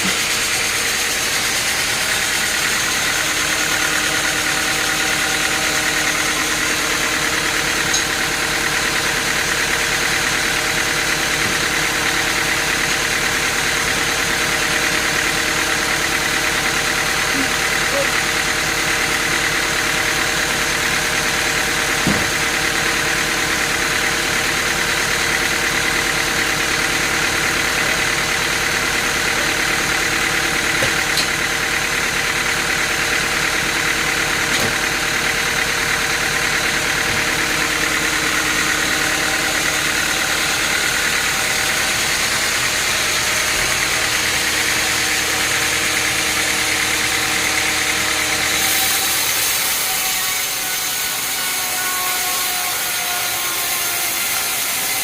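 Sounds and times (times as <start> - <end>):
sawmill machinery droning: 0.0 - 55.0.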